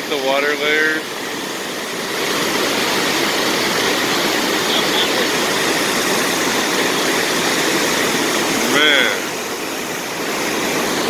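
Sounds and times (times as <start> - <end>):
fast-flowing stream water: 0.0 - 11.0
waterfall rushing: 0.0 - 11.0.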